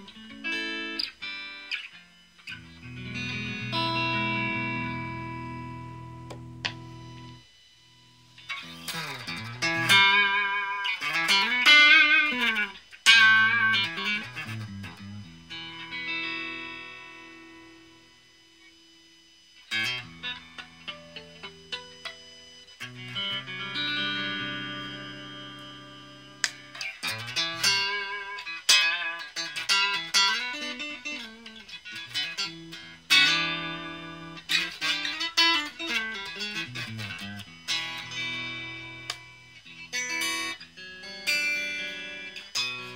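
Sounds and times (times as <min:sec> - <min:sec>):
electric guitar notes with bends: 0:00.0 - 0:07.4, 0:08.4 - 0:17.8, 0:19.7 - 0:42.9
electric guitar chord ringing: 0:00.0 - 0:18.9, 0:19.6 - 0:42.9.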